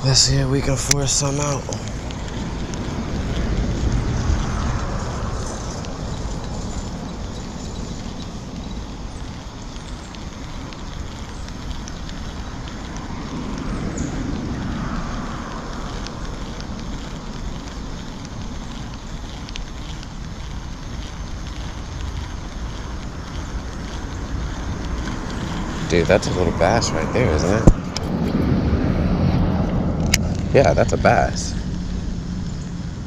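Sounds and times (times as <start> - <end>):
wind rumbling on microphone: 0.0 - 33.0
faint ticks: 0.6 - 28.4, 29.6 - 32.8.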